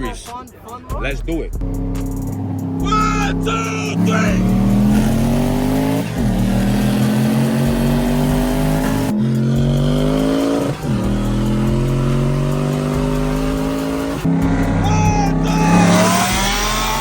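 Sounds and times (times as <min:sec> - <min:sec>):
car engine at full throttle: 0:01.6 - 0:17.0.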